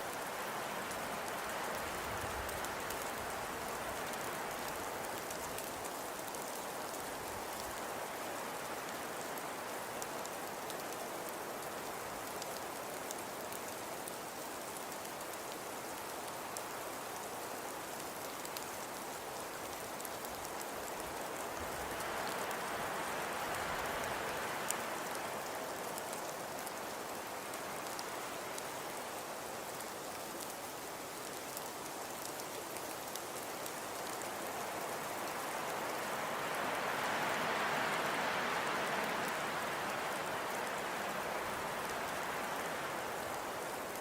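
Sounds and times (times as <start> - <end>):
faint snow pattering: 0.0 - 44.0.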